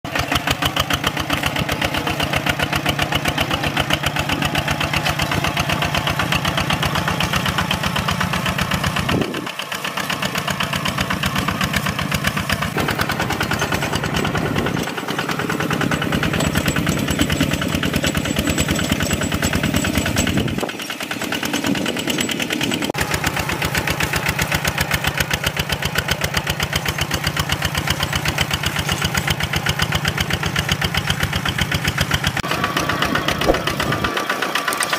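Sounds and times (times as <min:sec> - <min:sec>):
tractor diesel engine thudding: 0:00.1 - 0:34.9.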